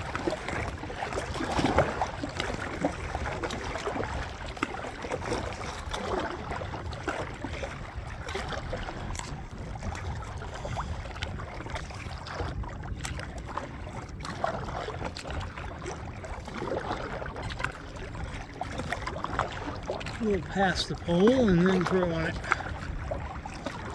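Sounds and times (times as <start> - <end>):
water lapping against plastic hull: 0.0 - 23.9
water splashing off paddle: 0.0 - 23.9.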